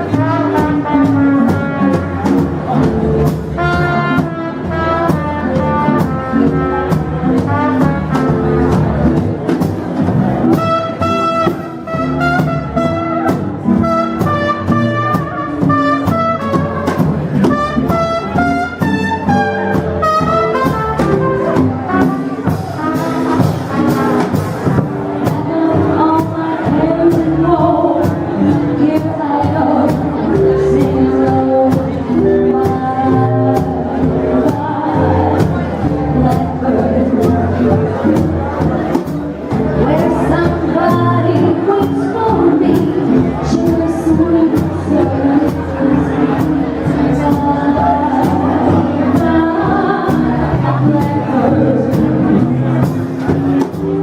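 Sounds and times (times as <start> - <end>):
brass-led jazz music: 0.0 - 54.0.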